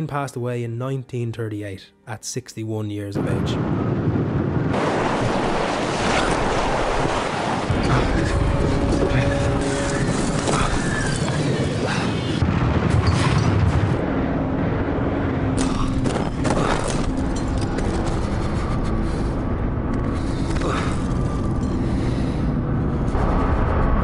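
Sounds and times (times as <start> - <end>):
film soundtrack music: 0.0 - 3.7, 5.1 - 12.7, 13.7 - 24.0
heavy low rumble: 3.2 - 24.0.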